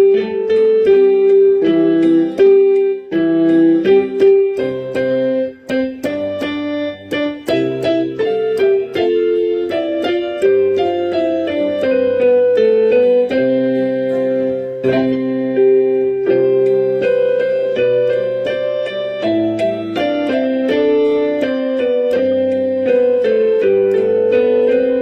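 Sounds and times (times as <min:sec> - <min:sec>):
keyboard melody over chords: 0:00.0 - 0:25.0.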